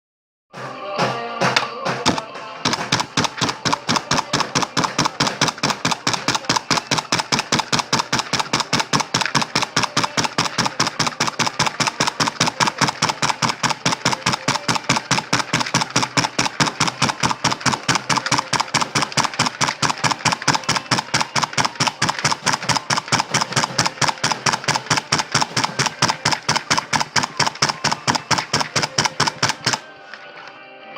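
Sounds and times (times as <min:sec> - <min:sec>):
machine tool mechanical strokes: 0:02.0 - 0:29.9.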